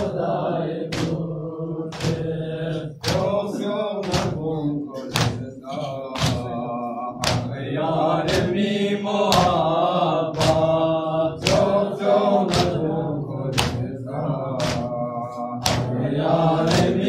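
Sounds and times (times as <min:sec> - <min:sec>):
chest-beating slaps: 0:00.0 - 0:08.7, 0:09.3 - 0:17.0
men chanting in unison: 0:00.0 - 0:17.0.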